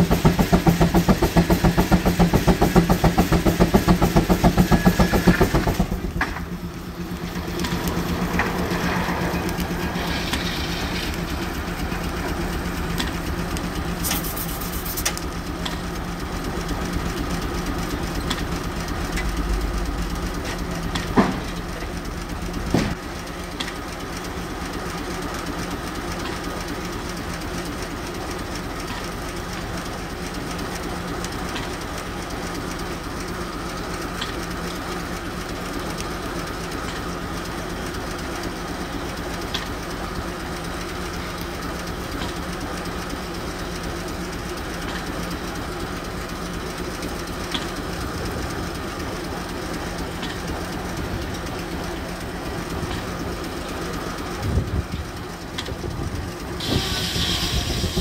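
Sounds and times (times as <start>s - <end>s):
steam engine and sawmill running: 0.0s - 58.0s.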